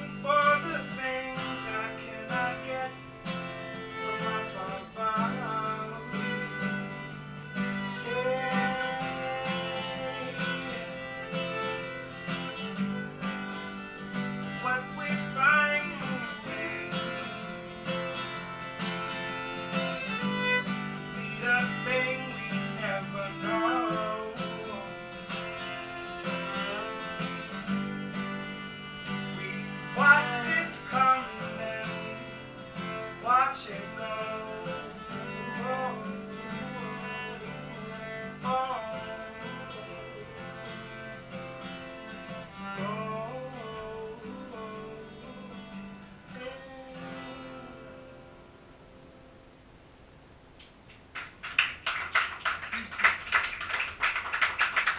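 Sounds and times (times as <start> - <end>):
sliding string melody: 0.0 - 48.3
acoustic guitar: 0.0 - 54.9.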